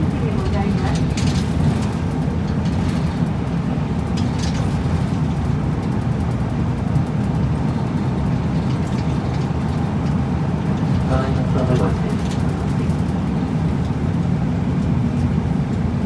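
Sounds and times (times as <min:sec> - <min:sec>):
bus engine and road rumble: 0:00.0 - 0:16.0
faint rattle: 0:00.3 - 0:14.2.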